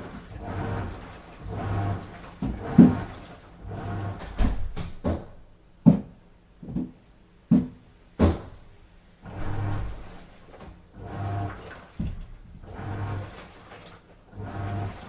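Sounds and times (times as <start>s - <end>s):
washing machine drum knocks and swishes: 0.0s - 8.7s, 9.3s - 15.0s.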